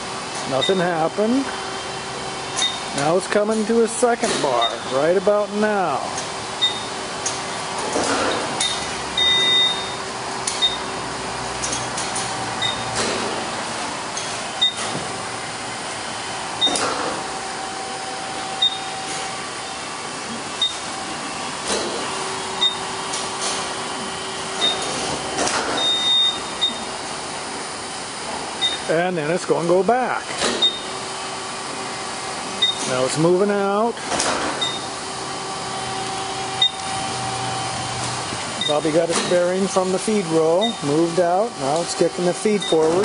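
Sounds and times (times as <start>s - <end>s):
mechanical hum: 0.0s - 43.0s.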